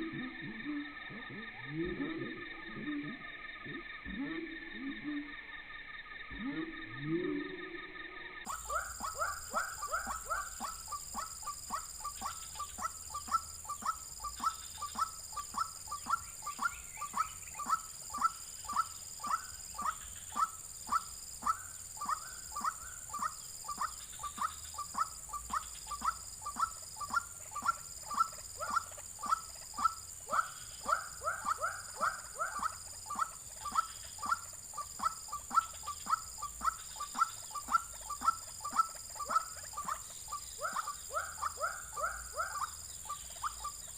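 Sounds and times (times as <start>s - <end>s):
waterhen calling: 8.4s - 43.9s.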